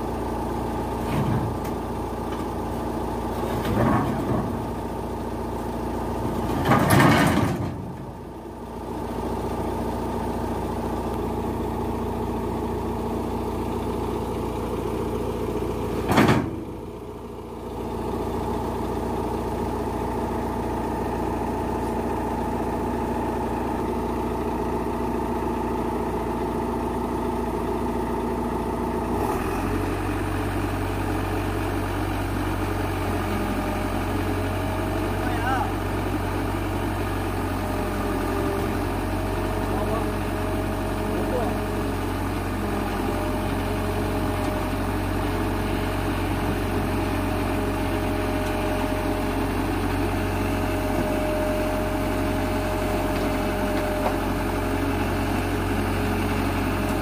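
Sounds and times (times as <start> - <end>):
heavy engine idling: 0.0 - 57.0.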